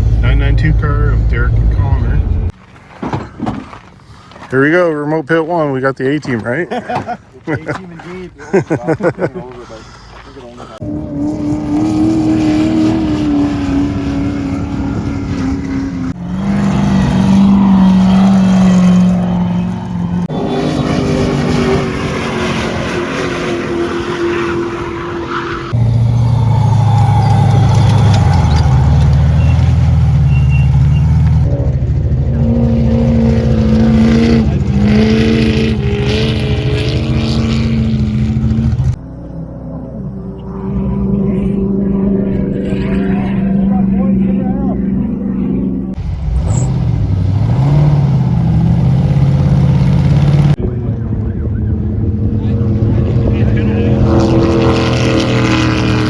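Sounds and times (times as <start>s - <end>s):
race car engines running: 0.0s - 56.0s.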